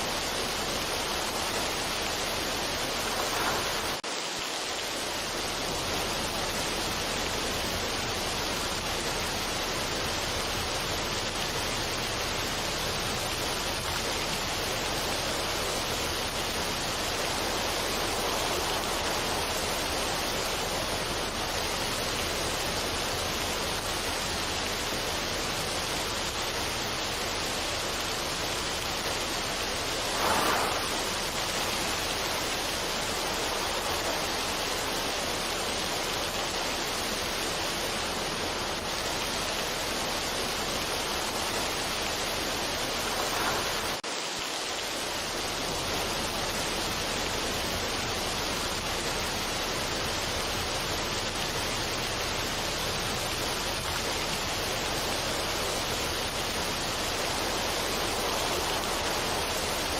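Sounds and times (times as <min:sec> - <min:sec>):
steady rushing noise: 0:00.0 - 0:59.9.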